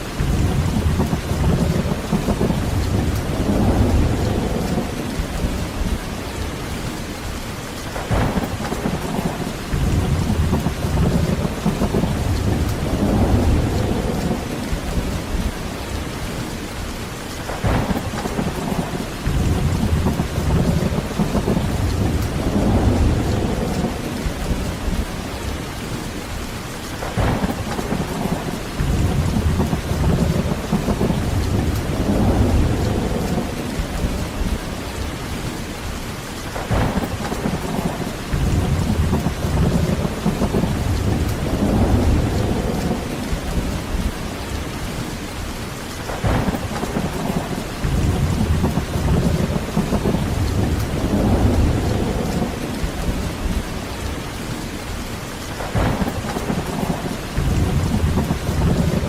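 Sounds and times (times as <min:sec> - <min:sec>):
heavy rain falling: 0:00.0 - 0:59.0
thunder cracking and rumbling: 0:00.0 - 0:59.0.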